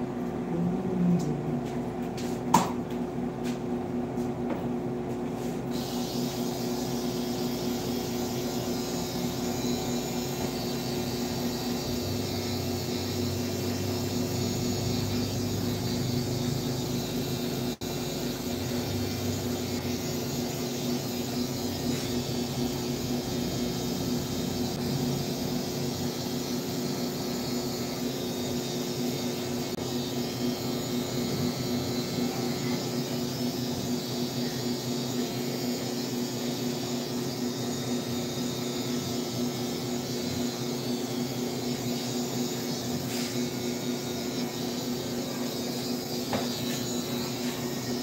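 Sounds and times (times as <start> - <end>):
hair dryer running: 5.7 - 48.0.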